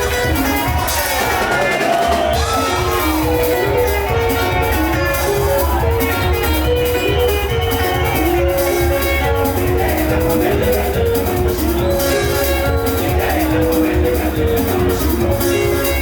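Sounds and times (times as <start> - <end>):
bass: 0.0 - 16.0
drums: 0.0 - 16.0
plucked guitar notes: 2.4 - 16.0.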